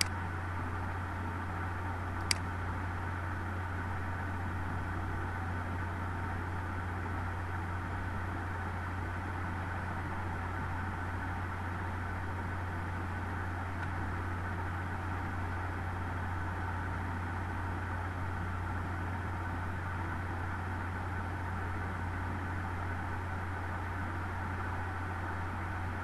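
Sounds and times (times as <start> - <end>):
low hum with hiss: 0.0 - 26.0.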